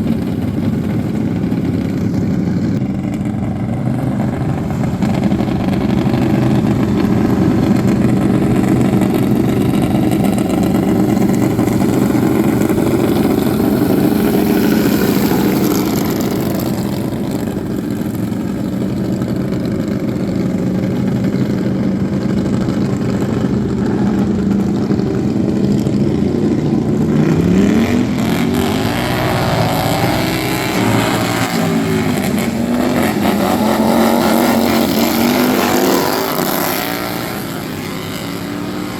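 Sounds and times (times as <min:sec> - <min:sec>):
lawn mower engines revving: 0:00.0 - 0:38.9.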